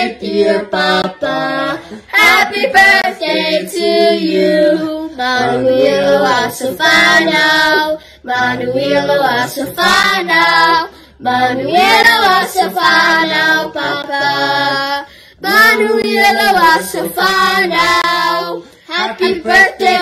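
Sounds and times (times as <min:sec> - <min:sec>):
children singing together: 0:00.0 - 0:20.0.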